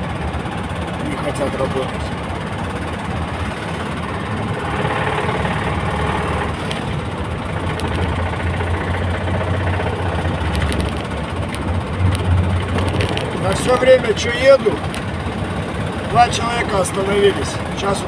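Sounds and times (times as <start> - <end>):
truck engine rumbling and knocking: 0.0 - 18.0.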